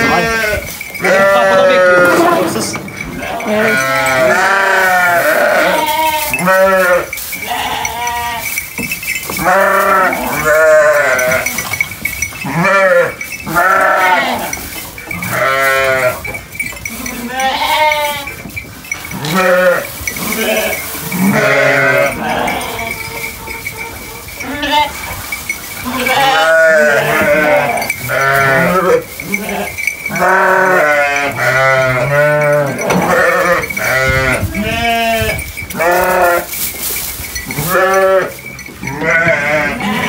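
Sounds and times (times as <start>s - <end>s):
sheep bleating: 0.0s - 8.5s, 9.4s - 11.6s, 12.5s - 14.6s, 15.2s - 16.3s, 17.0s - 18.3s, 19.2s - 25.0s, 25.8s - 36.5s, 37.6s - 40.0s.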